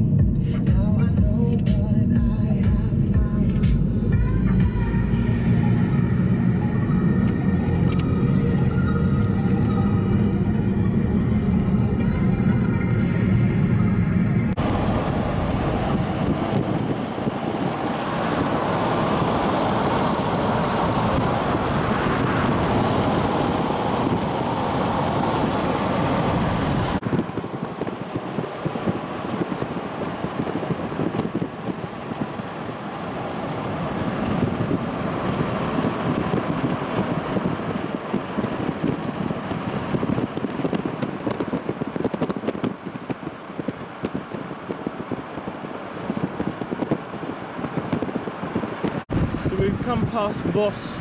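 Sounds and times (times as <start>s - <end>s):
car road and wind noise: 0.0s - 51.0s.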